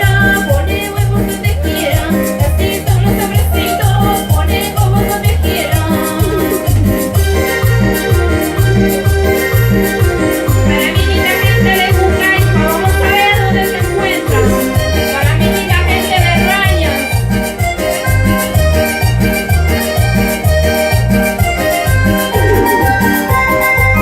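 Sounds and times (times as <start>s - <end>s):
latin dance music: 0.0s - 24.0s.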